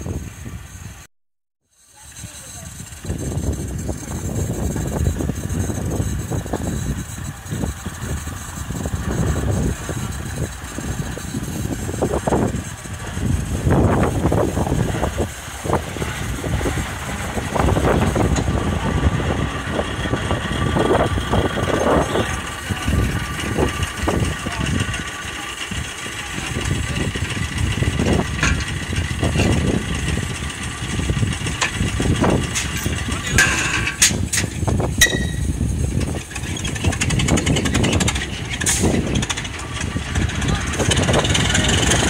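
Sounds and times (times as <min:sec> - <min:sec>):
diesel locomotive engine running: 0:00.0 - 0:42.0.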